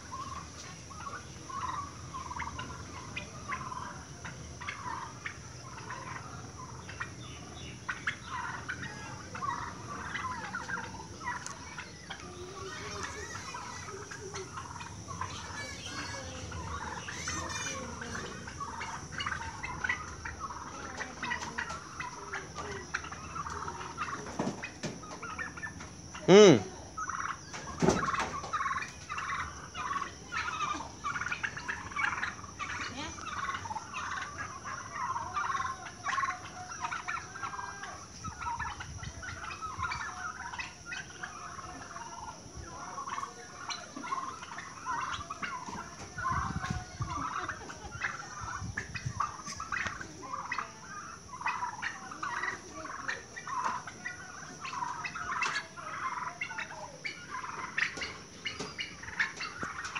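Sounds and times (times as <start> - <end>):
turkeys calling: 0.0 - 59.9.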